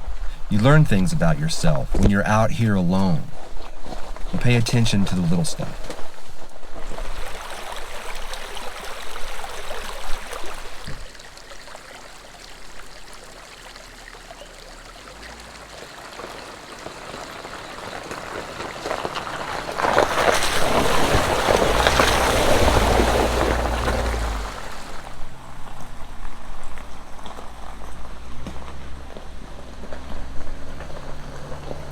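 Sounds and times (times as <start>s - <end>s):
rain and water hiss: 0.0s - 31.9s.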